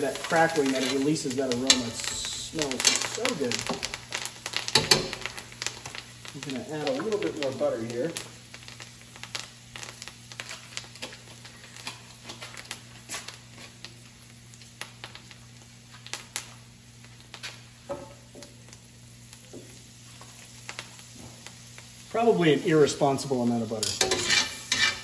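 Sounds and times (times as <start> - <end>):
butter sizzling in a skillet: 0.0 - 25.0.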